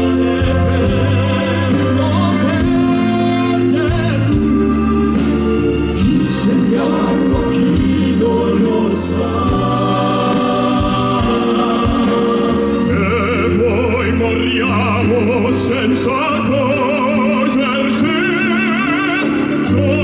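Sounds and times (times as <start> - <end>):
male operatic voices singing: 0.0 - 20.0
orchestral accompaniment: 0.0 - 20.0.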